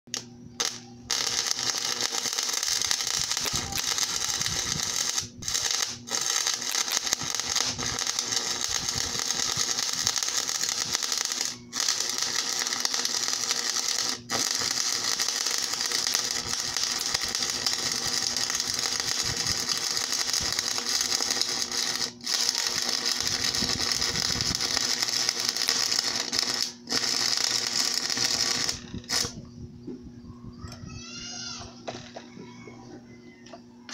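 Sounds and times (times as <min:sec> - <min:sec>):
electric welding arc crackling: 0:00.1 - 0:29.4
low hum: 0:00.1 - 0:30.9.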